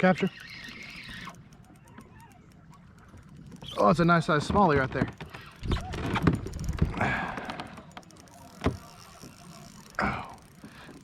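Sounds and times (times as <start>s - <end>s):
gear knocking against boat: 1.1s - 11.0s.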